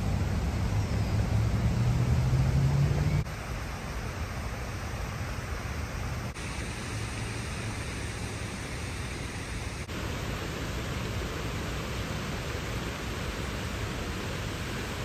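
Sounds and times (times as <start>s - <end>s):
rushing background noise: 0.0s - 15.0s.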